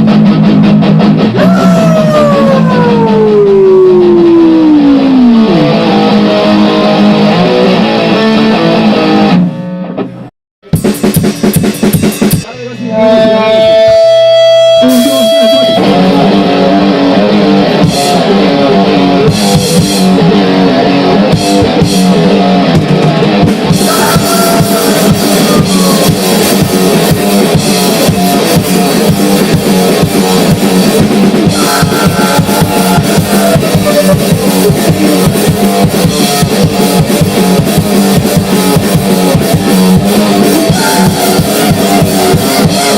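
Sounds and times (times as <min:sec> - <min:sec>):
distorted electric guitar: 0:00.0 - 0:42.9
drum kit: 0:00.0 - 0:42.9.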